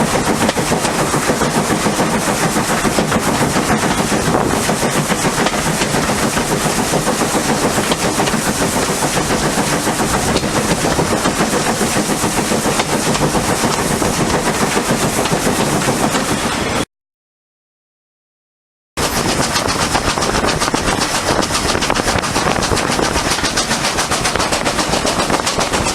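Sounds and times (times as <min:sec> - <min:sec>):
steam locomotive exhaust beats: 0:00.0 - 0:16.8, 0:19.0 - 0:25.9.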